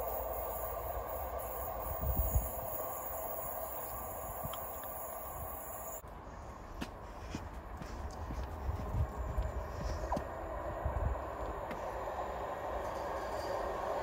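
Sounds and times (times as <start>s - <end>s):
train engine and wheel drone: 0.0s - 14.0s.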